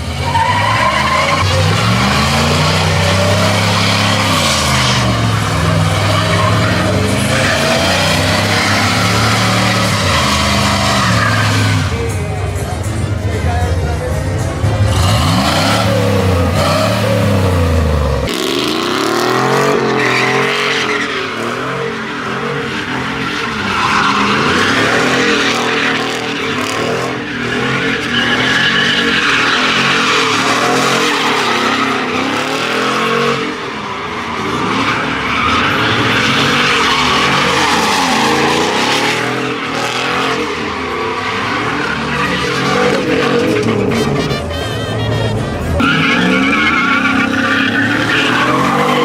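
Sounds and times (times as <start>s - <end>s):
tires squealing on pavement: 0.0s - 49.0s
truck engine revving: 0.0s - 49.0s.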